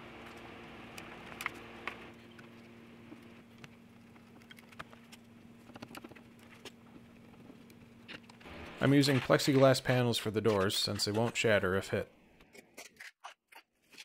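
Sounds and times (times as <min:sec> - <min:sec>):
faint steady hum: 0:00.0 - 0:12.4.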